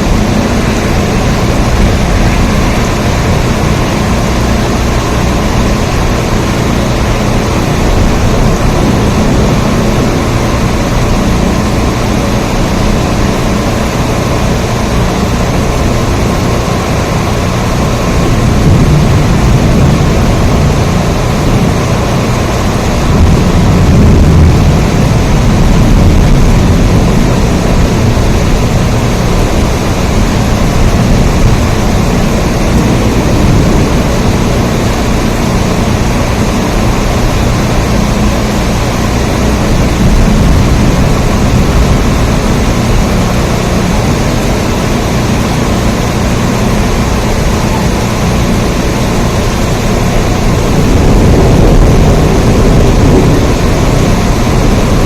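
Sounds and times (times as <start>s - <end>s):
deep rumble: 0.0s - 55.0s
heavy rain: 0.0s - 55.0s.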